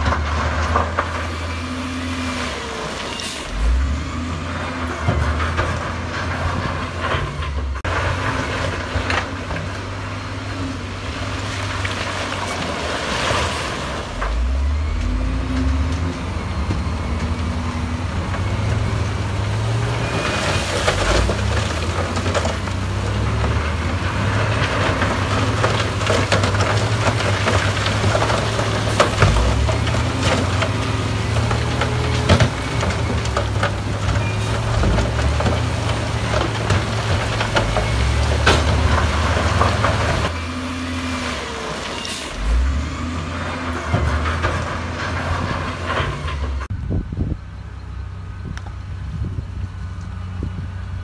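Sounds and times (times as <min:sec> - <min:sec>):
rock clattering from dump truck: 0:00.0 - 0:10.2, 0:10.8 - 0:40.5, 0:41.2 - 0:46.7
heavy diesel engines humming: 0:00.0 - 0:51.0.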